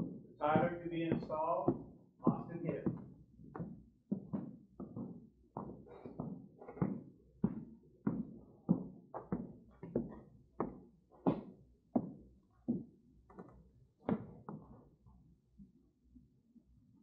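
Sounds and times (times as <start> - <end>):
footsteps on a hard floor: 0.0 - 14.8.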